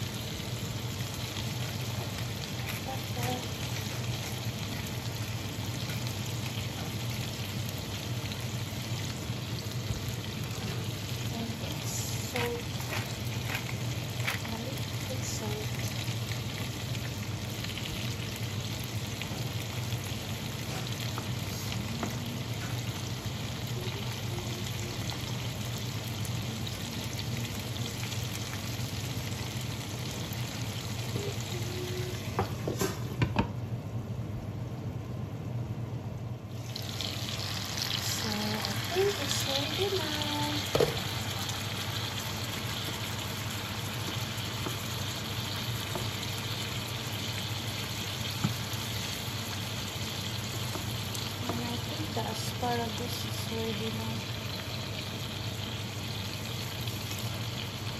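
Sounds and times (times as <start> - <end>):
food sizzling in a pan: 0.0 - 33.4, 36.5 - 57.9.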